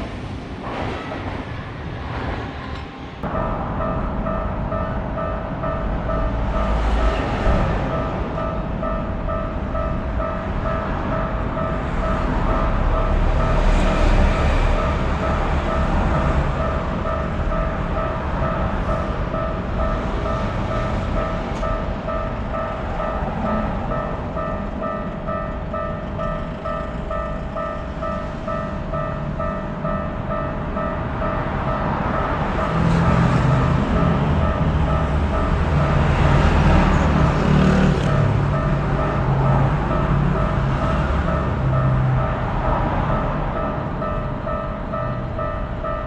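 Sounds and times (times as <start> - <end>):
railroad crossing bell ringing: 3.2 - 46.0.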